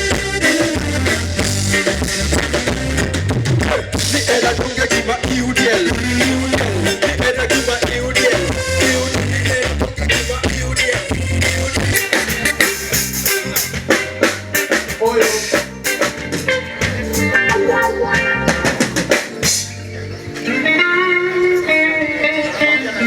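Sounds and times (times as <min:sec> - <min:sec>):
drum kit hits and fills: 0:00.0 - 0:20.0
guitar: 0:00.0 - 0:23.0.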